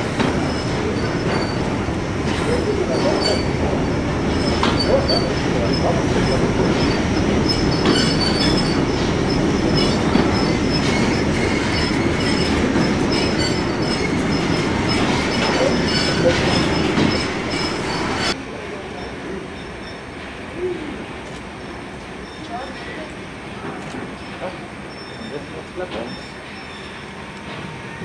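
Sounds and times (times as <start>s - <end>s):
train rumble: 0.0s - 28.0s
train wheels squealing: 0.2s - 1.7s, 2.4s - 18.4s, 19.0s - 20.1s, 22.2s - 23.1s, 23.9s - 28.0s.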